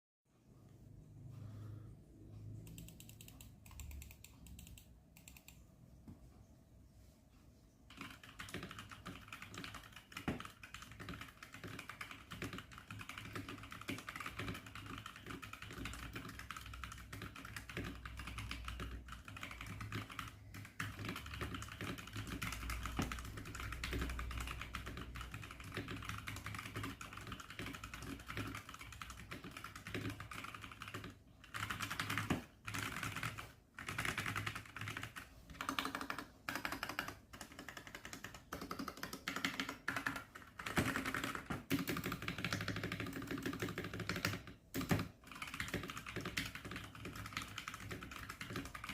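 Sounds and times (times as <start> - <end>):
mechanical keyboard typing: 2.6 - 5.6, 7.9 - 48.9.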